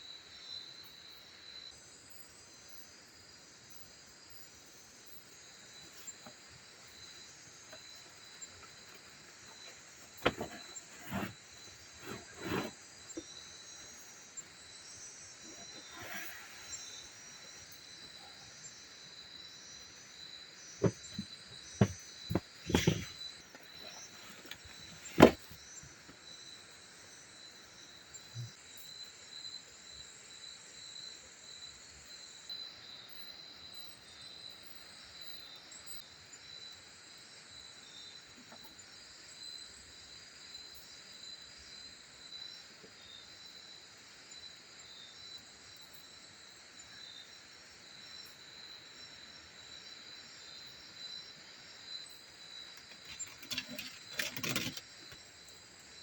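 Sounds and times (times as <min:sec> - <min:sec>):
crickets chirping in chorus: 0:00.0 - 0:56.0.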